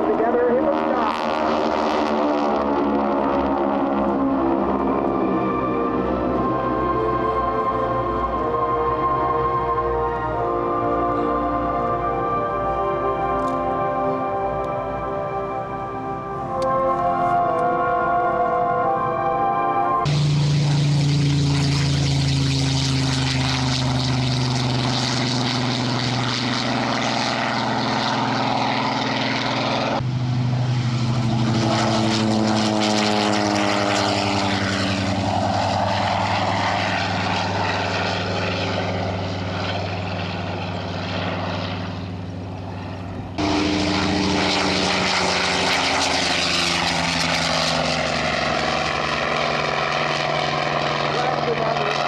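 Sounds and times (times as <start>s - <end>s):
propeller planes droning past: 0.0s - 52.0s.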